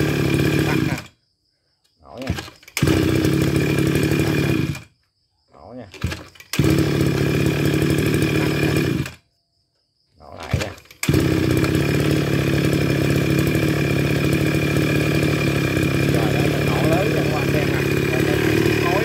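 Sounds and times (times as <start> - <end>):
brush cutter engine running: 0.0 - 1.2, 2.2 - 4.9, 5.9 - 9.2, 10.4 - 19.0
engine cranking: 0.0 - 1.2, 2.1 - 4.9, 5.8 - 9.2, 10.4 - 19.0.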